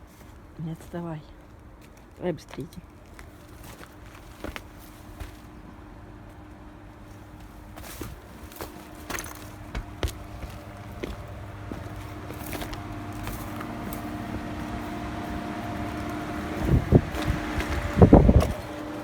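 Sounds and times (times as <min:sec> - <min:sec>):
footsteps on rough ground: 0:00.0 - 0:19.0
steady mechanical hum: 0:00.0 - 0:19.0.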